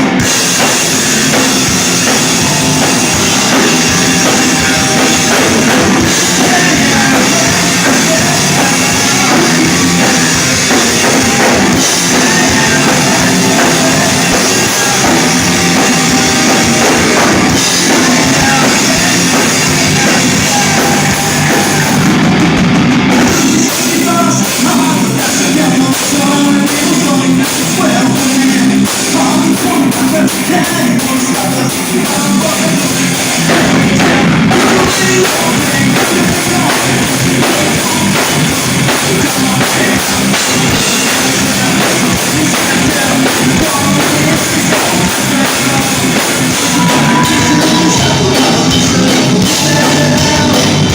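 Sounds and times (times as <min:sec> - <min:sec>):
drum hits: 0:00.0 - 0:23.6, 0:33.3 - 0:50.9
live rock band playing: 0:00.0 - 0:50.9.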